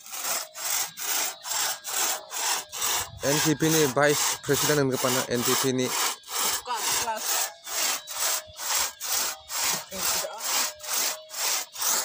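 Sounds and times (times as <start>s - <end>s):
hand saw cutting wood: 0.0s - 12.0s.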